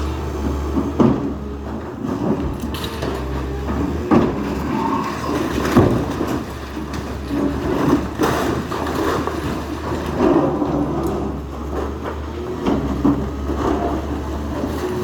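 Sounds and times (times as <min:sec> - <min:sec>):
heavy machine engine running: 0:00.0 - 0:15.0
metal and rubble clanking: 0:00.0 - 0:15.0.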